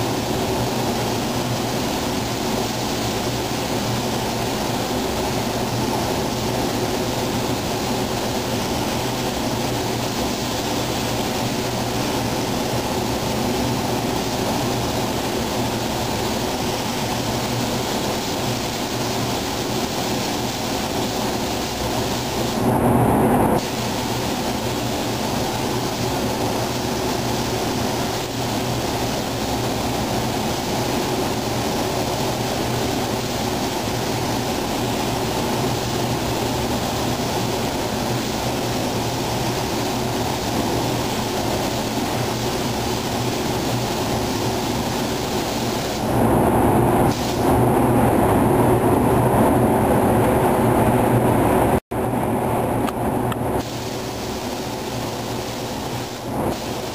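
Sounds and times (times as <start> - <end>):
spray gun air hiss: 0.0 - 50.1, 53.5 - 56.9
paint booth air noise: 0.0 - 56.9.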